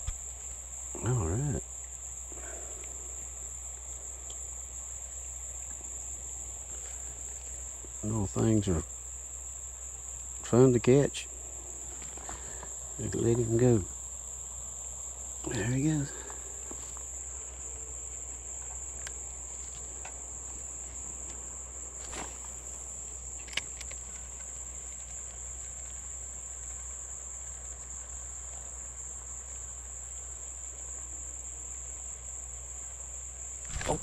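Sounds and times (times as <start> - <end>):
insect chorus drone: 0.0 - 34.0.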